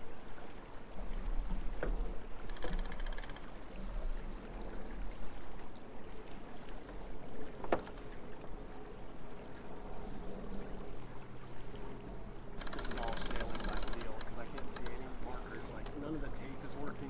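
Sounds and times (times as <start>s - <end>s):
water washing along a boat hull: 0.0s - 17.0s.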